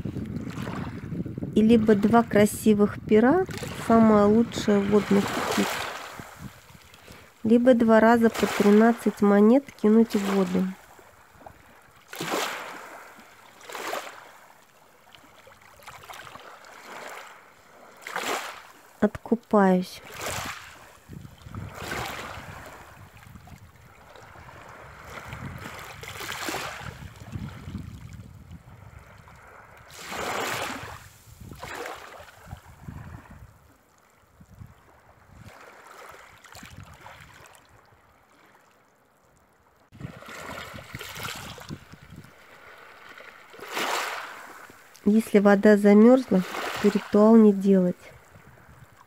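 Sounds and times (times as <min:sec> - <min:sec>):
small waves washing on shore: 0:00.0 - 0:49.0.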